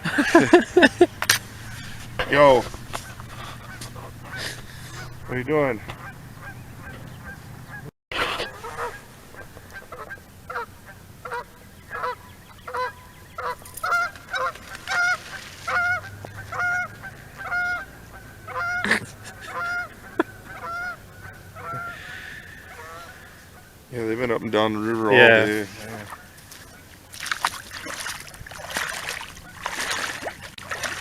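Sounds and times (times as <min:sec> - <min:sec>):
geese honking: 0:00.0 - 0:27.0, 0:28.8 - 0:31.0.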